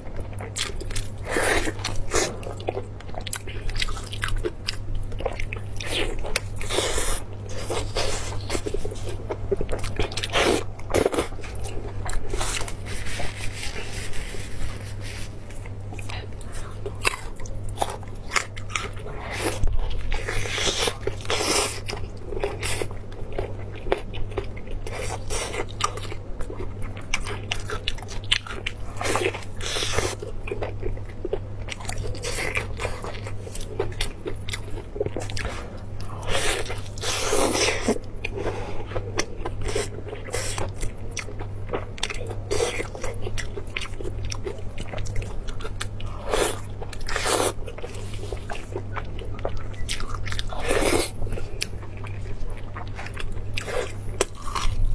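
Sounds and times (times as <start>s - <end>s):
chewing meat with crunches: 0.0s - 13.9s, 14.7s - 54.9s
steady low hum: 0.0s - 54.9s.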